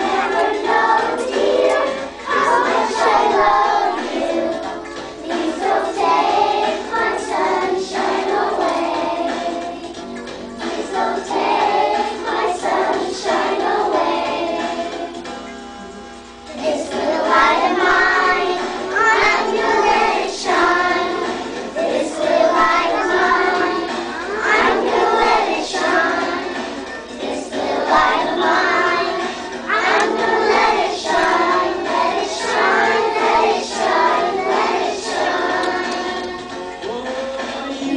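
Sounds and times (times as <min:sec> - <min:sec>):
children singing: 0:00.0 - 0:10.0, 0:10.6 - 0:15.2, 0:16.5 - 0:37.9.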